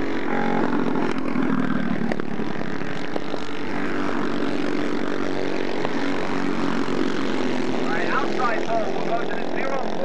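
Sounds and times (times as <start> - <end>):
kart engines droning: 0.0 - 10.0.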